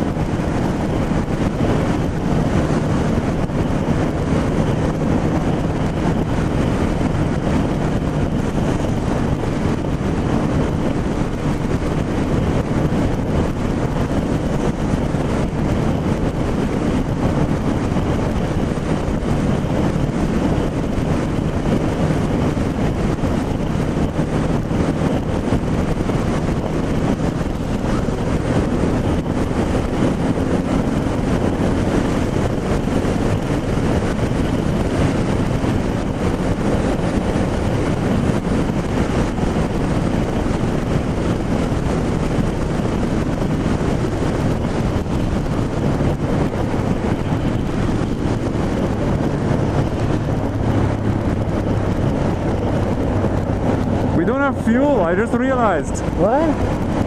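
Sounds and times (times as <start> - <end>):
motorcycle engine drone: 0.0 - 57.0
wind rushing over microphone: 0.0 - 57.0.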